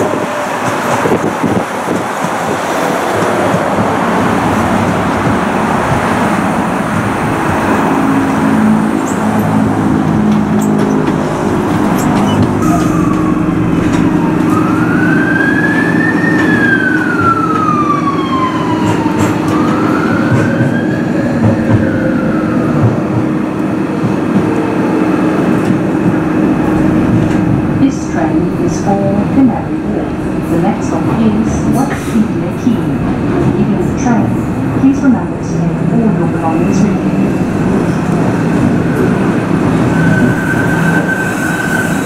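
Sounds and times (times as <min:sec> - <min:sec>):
train wheel and track rumble: 0:00.0 - 0:42.0.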